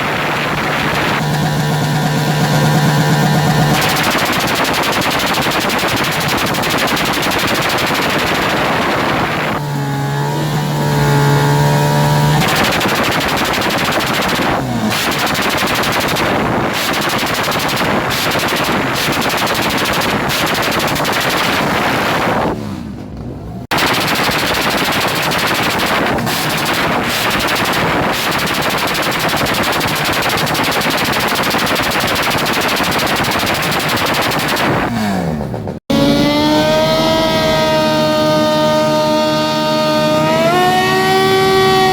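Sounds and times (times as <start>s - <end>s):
motorcycle engine on rev limiter: 0.0s - 41.9s.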